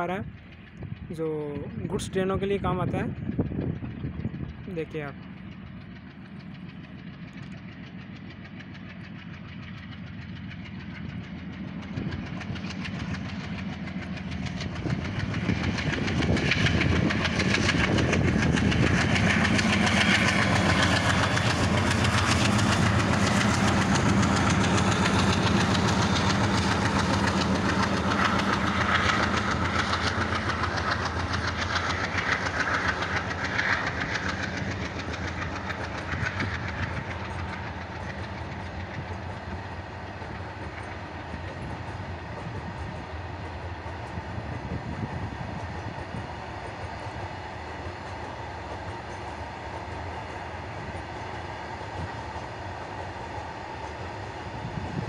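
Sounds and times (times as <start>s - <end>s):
diesel locomotive engine: 0.0s - 55.0s.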